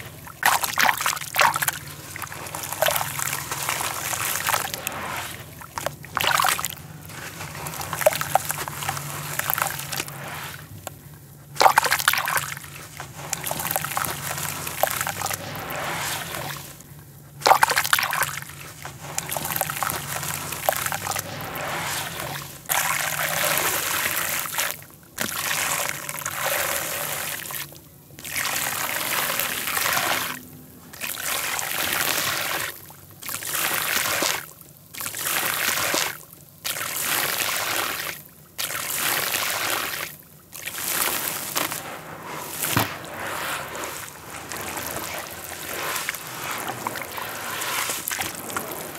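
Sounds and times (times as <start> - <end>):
dry powder pouring: 0.0 - 16.8, 17.4 - 30.4, 38.6 - 48.9
dirt crumbling in water: 0.0 - 48.9.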